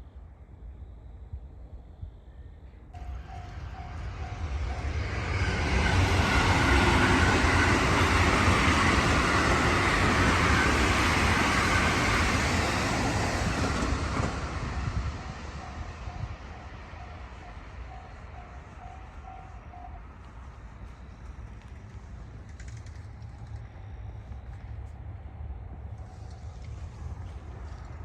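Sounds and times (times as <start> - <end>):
train passing: 2.9 - 28.0.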